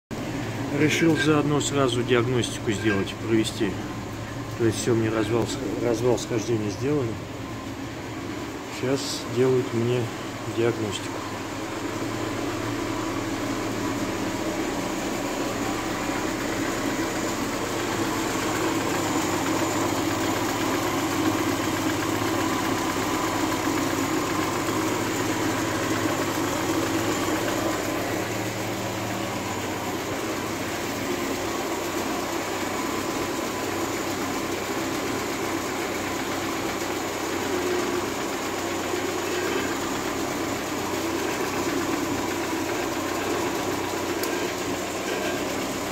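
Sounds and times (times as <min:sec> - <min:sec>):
car engine idling: 0:00.1 - 0:45.9.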